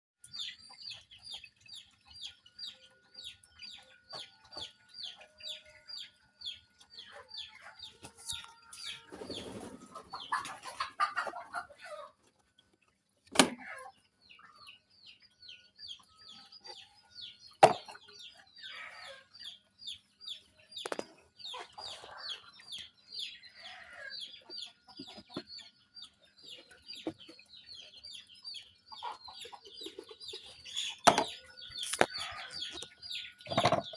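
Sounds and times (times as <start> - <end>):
chicks chirping: 0.2 - 12.4, 13.6 - 33.9
chickens clucking: 0.3 - 33.9.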